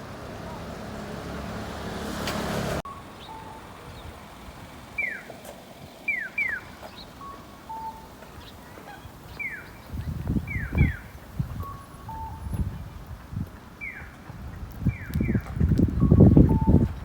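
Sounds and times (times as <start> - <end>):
birds calling: 2.3 - 17.0.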